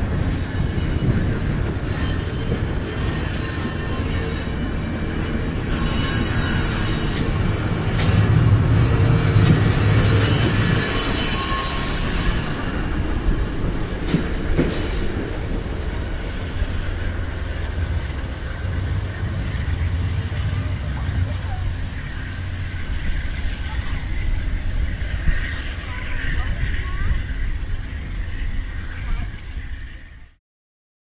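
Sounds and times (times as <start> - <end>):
train wheels rumbling on rail: 0.0 - 30.4.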